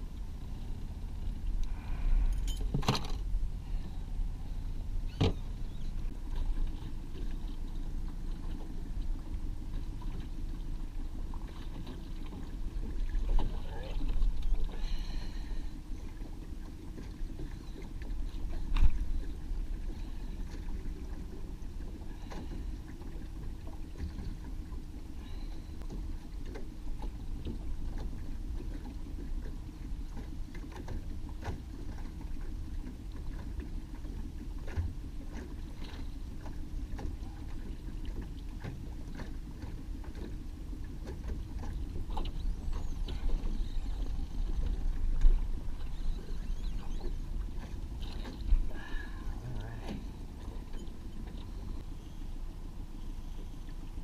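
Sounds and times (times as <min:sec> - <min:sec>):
outboard motor humming: 0:00.0 - 0:54.0.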